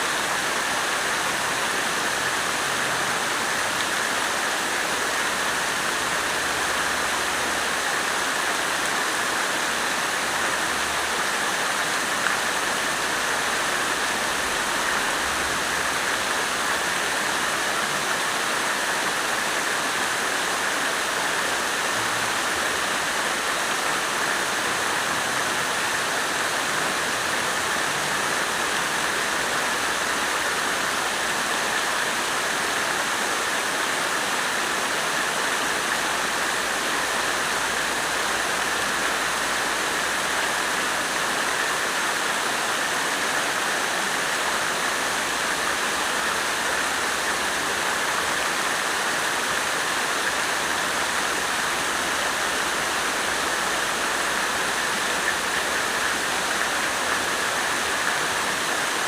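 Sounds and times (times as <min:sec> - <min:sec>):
water fountain splashing: 0:00.0 - 0:59.0.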